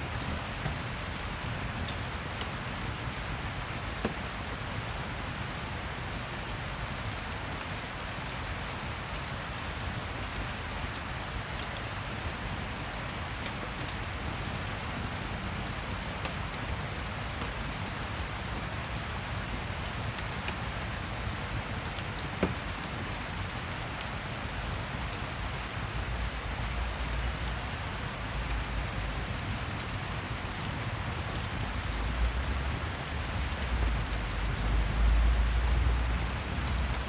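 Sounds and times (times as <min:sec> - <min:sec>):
faint fire crackles: 0:00.0 - 0:37.0
steady rain: 0:00.0 - 0:37.0.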